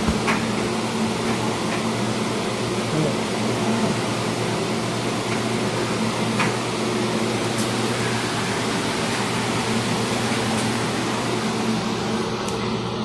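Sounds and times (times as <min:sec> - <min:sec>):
machine hum and hiss: 0:00.0 - 0:13.0.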